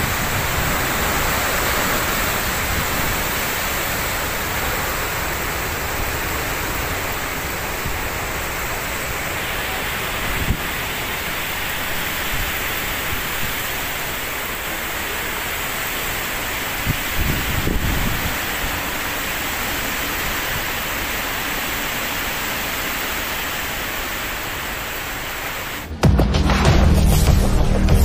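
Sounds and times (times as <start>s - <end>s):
typhoon wind: 0.0s - 26.0s
heavy rain: 0.0s - 28.0s.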